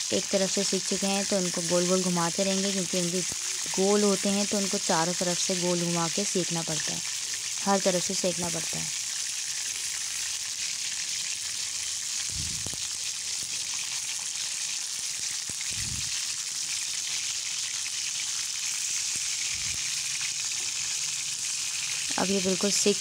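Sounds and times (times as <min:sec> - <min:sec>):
meatballs sizzling in oil: 0:00.0 - 0:23.0.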